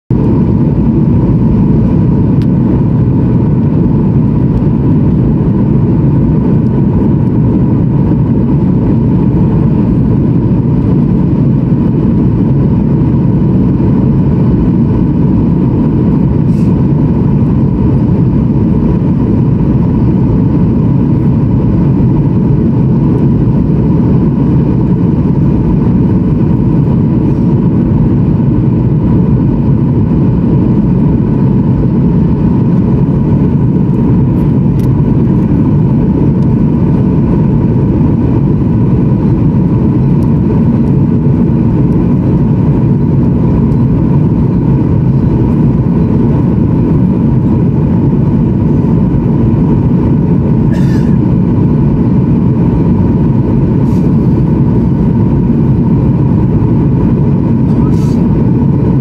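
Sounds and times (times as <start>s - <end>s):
airplane cabin air rush: 0.1s - 59.0s
jet engines humming: 0.1s - 59.0s.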